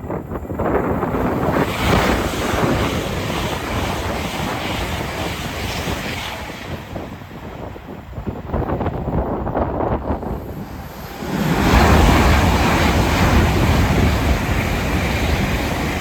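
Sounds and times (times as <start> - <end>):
train passing at speed: 0.0 - 16.0
wind on microphone: 0.0 - 16.0.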